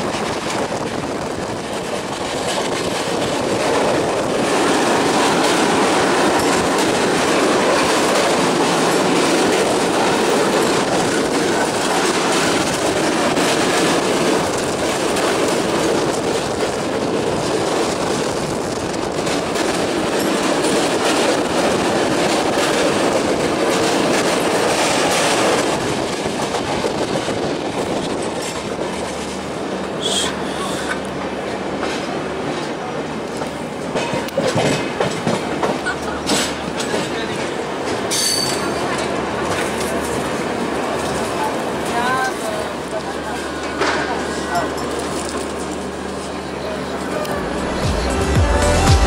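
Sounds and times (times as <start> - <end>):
train wheels clickety-clack: 0.0 - 46.4.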